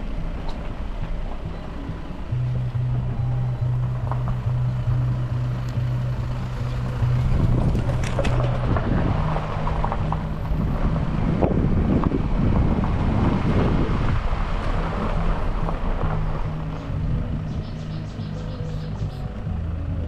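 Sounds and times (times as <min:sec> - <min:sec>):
wind buffeting microphone: 0:00.0 - 0:19.7
vehicle engine rumbling: 0:00.0 - 0:20.0
knocks and crackles: 0:00.4 - 0:17.4.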